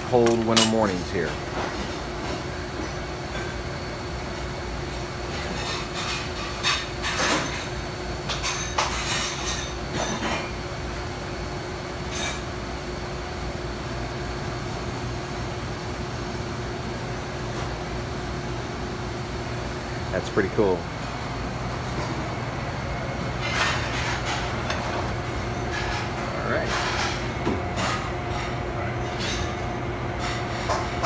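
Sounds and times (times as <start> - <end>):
kitchen ventilation hum: 0.0 - 31.0.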